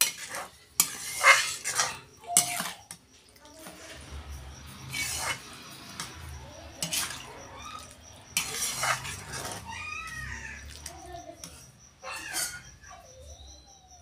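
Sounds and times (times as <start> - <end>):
metal ladle scraping a pan: 0.0 - 12.8.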